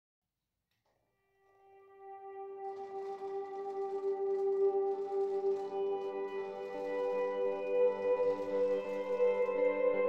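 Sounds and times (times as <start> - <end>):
background music with held tones: 1.4 - 10.0.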